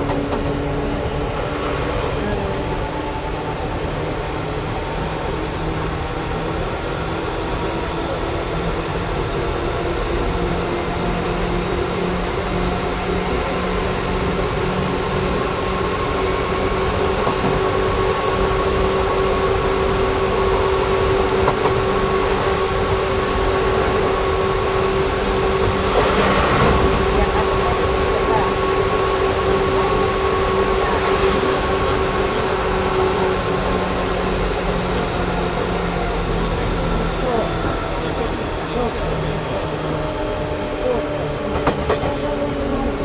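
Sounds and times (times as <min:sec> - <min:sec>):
electric train running rumble: 0:00.0 - 0:43.0.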